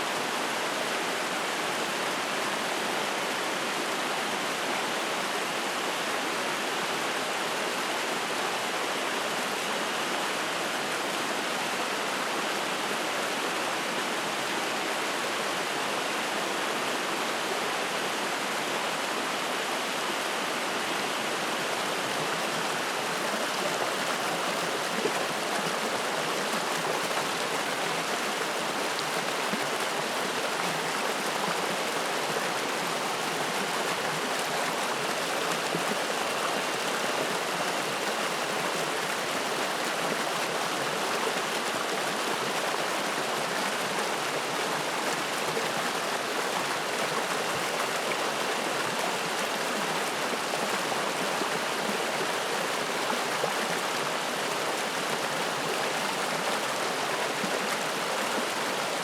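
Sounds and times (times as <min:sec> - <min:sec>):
stream flowing and splashing: 0:00.0 - 0:59.0.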